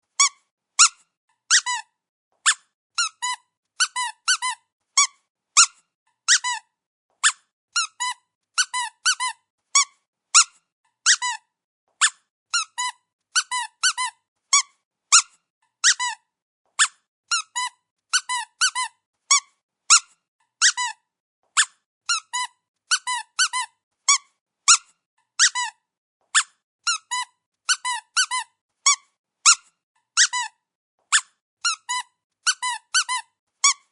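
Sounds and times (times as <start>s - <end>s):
dog squeaky toy squeaking: 0.2s - 11.4s, 12.0s - 33.9s.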